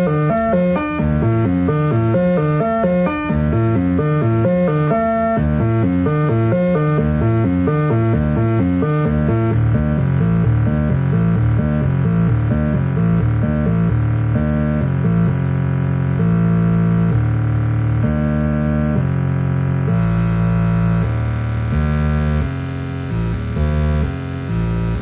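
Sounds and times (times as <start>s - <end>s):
synthesizer arpeggio: 0.0s - 15.4s, 18.0s - 19.0s, 19.8s - 25.0s.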